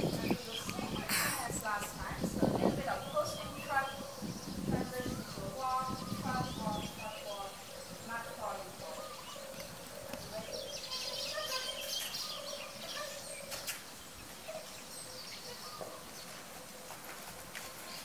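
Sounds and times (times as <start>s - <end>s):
wild birds chirping: 0.0s - 18.0s.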